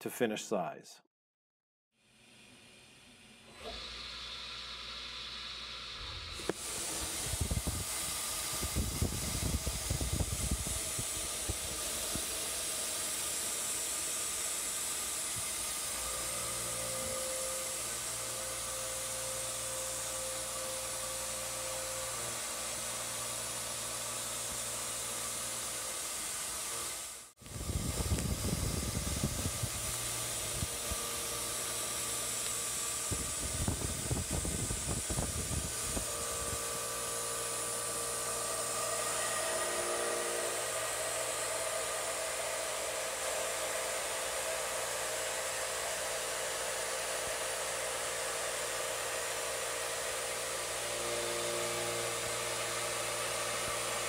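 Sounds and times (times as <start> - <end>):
machine cutting steel hiss: 6.4 - 54.0.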